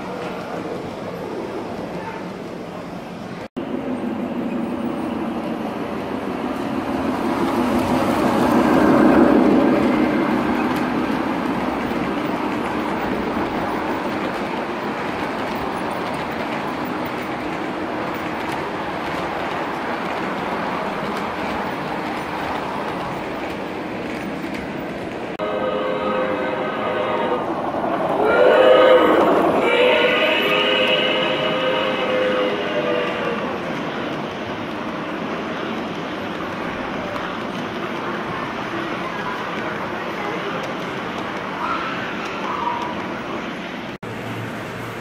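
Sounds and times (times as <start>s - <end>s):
model train wheels on track: 4.5s - 45.0s.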